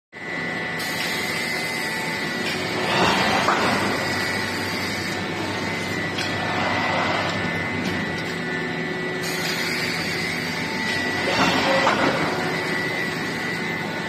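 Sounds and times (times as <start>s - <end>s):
machinery humming and whining: 0.2s - 14.0s.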